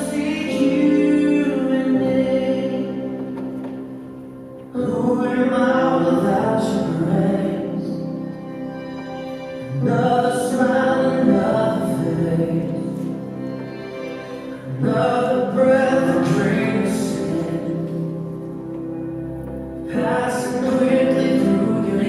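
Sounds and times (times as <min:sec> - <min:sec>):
slow music with sung phrases: 0:00.0 - 0:22.0.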